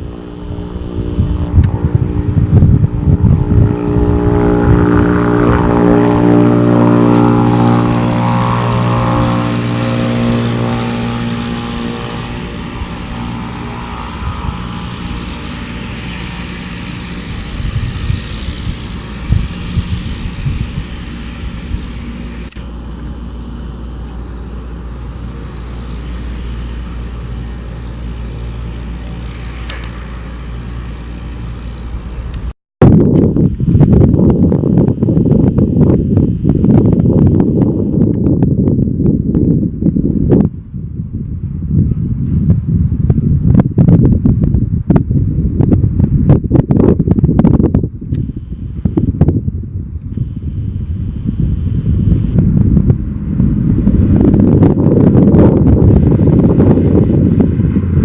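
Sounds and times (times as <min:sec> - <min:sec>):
turboprop engine and propeller: 0:00.0 - 0:58.0.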